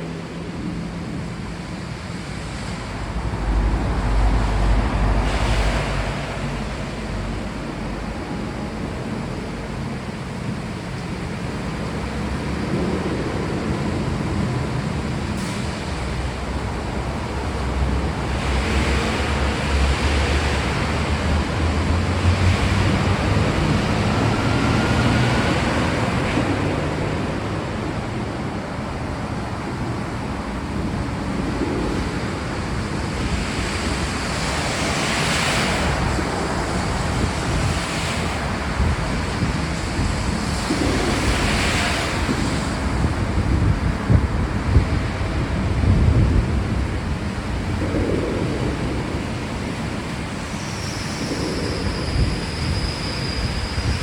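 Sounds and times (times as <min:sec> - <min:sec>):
heavy rain: 0:00.0 - 0:54.0
rolling thunder: 0:00.2 - 0:54.0.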